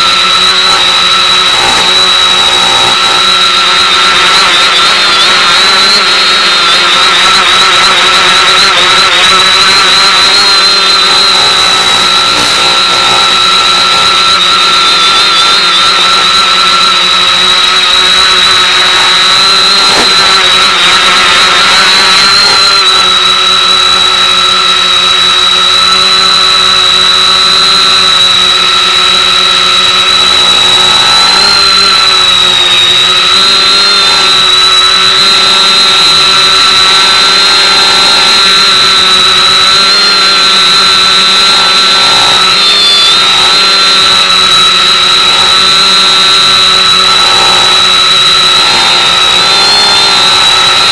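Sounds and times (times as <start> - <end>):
drone motors whining: 0.0 - 50.9.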